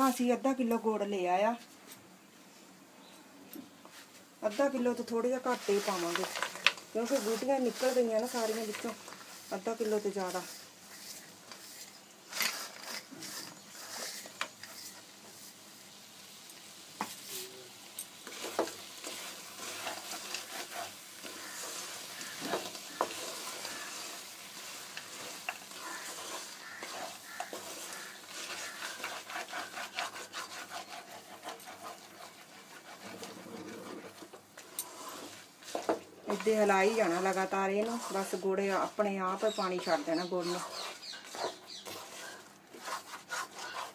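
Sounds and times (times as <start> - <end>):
soft sizzle: 0.0 - 43.9
spoon scraping a pan: 4.5 - 15.5, 18.2 - 43.9.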